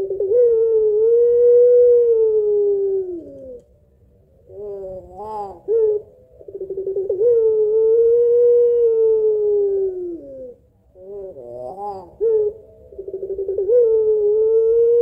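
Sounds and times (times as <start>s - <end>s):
dove cooing: 0.0s - 3.7s, 4.3s - 15.0s.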